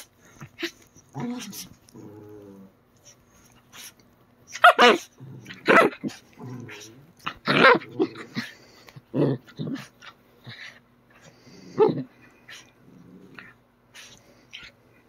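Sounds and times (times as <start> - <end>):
dog play-barking and growling: 0.0 - 15.0.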